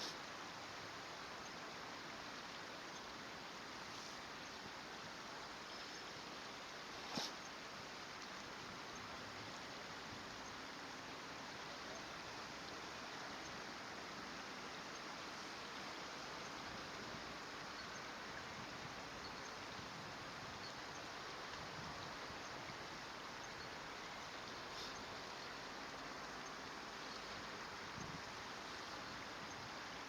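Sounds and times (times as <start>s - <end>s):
stream water flowing: 0.0s - 30.0s.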